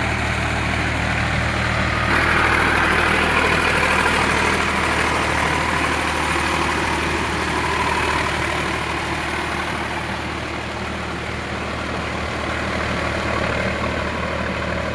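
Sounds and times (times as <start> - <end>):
tractor diesel engine humming: 0.0 - 14.9.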